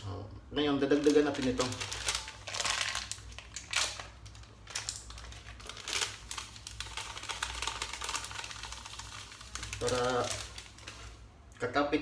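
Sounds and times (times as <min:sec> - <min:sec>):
plastic sachet crinkling: 0:00.9 - 0:11.3.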